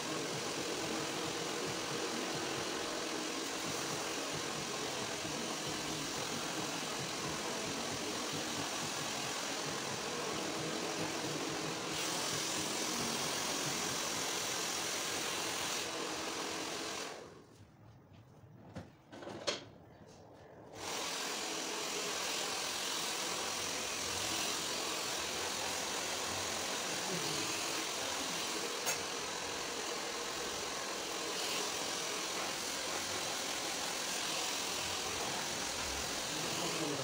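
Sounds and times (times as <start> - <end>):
hair dryer blowing: 0.0 - 17.5, 20.7 - 37.0.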